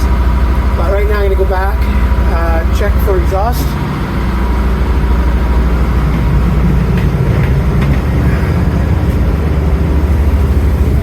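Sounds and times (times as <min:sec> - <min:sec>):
marine diesel engine running: 0:00.0 - 0:11.0.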